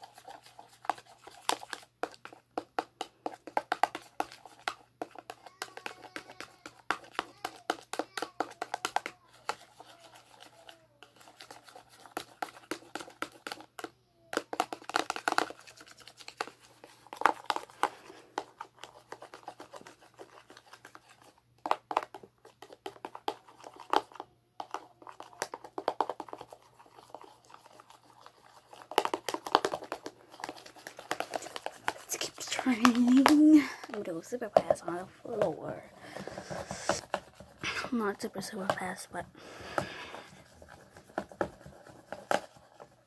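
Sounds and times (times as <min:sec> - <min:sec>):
slime being stirred: 0:00.0 - 0:43.0.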